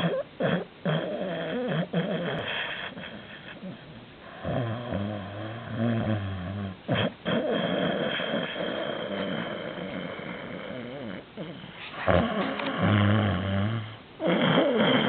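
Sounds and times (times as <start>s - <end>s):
cat snoring loudly: 0.0s - 15.0s.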